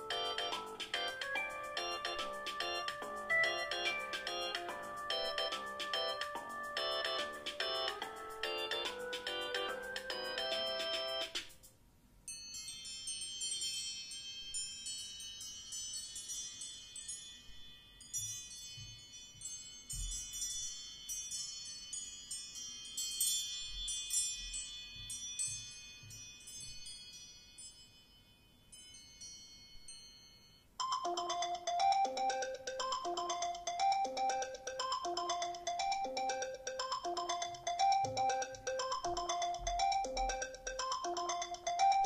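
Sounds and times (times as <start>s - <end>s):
bell-like ringtone melody: 0.0s - 11.4s, 12.3s - 42.0s
lower-pitched ringtone: 0.0s - 11.4s, 12.3s - 42.0s.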